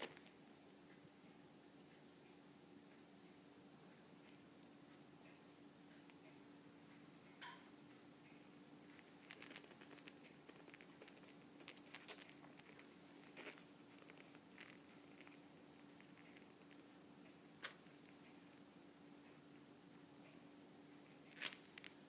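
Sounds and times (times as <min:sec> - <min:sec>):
faint clicks and scratches: 0:00.0 - 0:19.6, 0:20.2 - 0:22.0
faint hum: 0:00.0 - 0:22.0.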